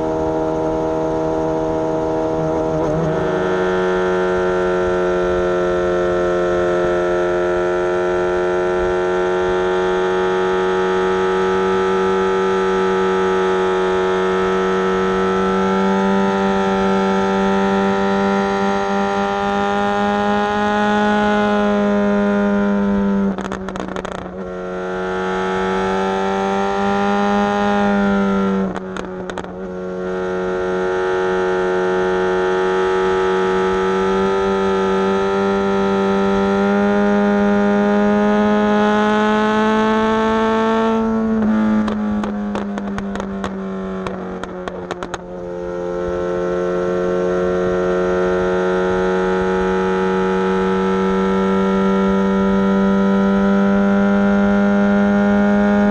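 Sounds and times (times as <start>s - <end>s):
motorcycle engine at high revs: 0.0s - 55.9s.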